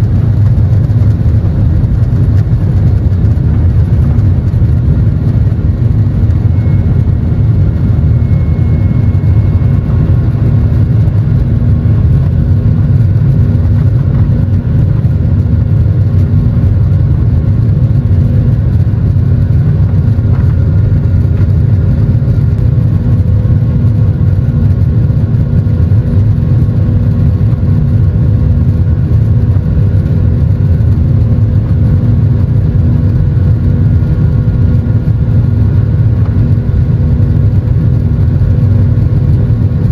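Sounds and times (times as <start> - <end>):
jet engines at takeoff power: 0.0 - 39.9.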